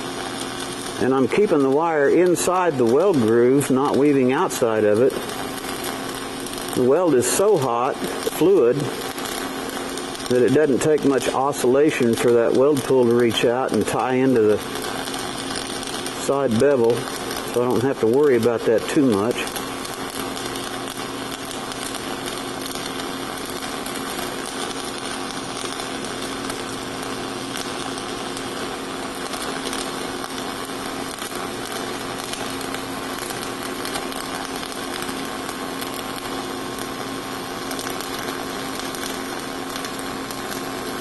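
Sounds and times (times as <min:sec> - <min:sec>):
steady hum: 0:00.0 - 0:41.0
welding arc crackling and hissing: 0:00.0 - 0:41.0.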